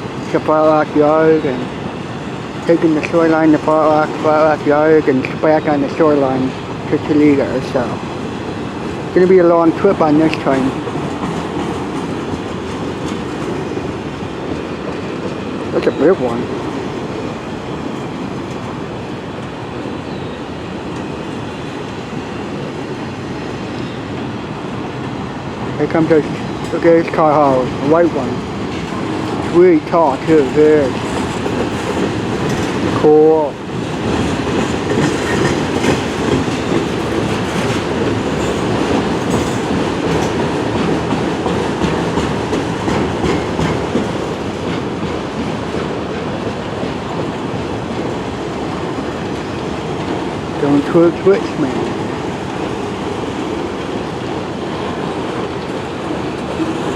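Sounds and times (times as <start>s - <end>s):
freight train wheels rattling on rail: 0.0s - 56.9s.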